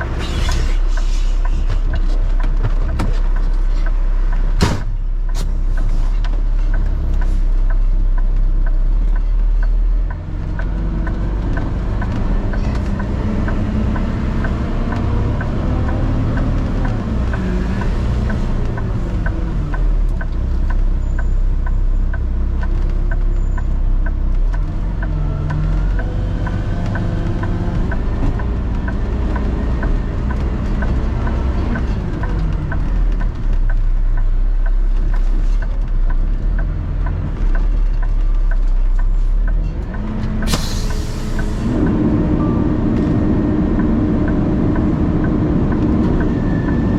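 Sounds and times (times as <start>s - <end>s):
vehicle engine running: 0.0s - 46.9s
steady clicking: 0.9s - 46.9s.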